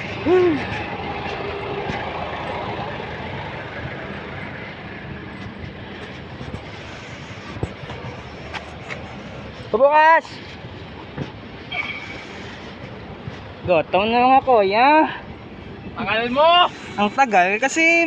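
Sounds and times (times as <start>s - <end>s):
vehicle and traffic noise: 0.0s - 18.0s.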